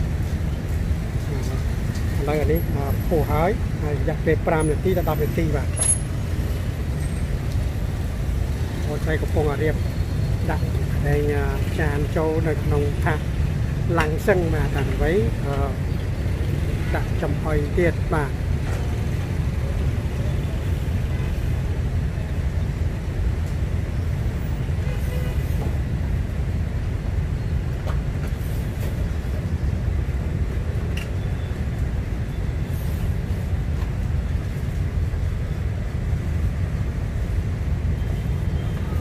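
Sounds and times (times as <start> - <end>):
low street rumble: 0.0 - 39.0.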